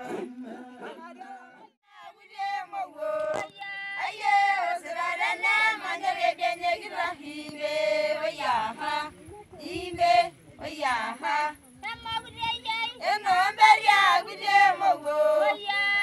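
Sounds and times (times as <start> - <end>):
group call-and-response singing: 0.0 - 16.0.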